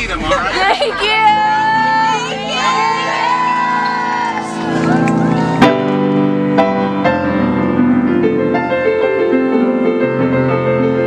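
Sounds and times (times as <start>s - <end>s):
piano playing slow chords: 1.2s - 11.0s.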